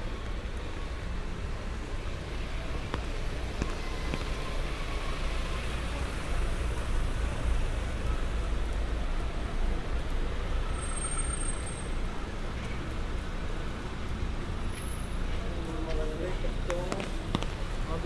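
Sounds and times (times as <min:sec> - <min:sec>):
traffic engine rumble: 0:00.0 - 0:18.0
tyres on wet road: 0:00.0 - 0:18.0.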